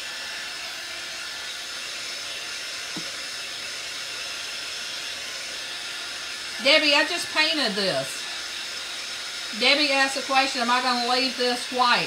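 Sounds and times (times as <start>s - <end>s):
heat gun blowing hiss: 0.0s - 12.0s.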